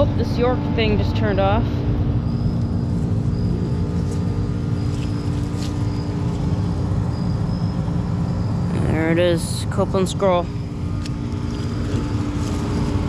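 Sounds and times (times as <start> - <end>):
air conditioner units humming: 0.0 - 13.0.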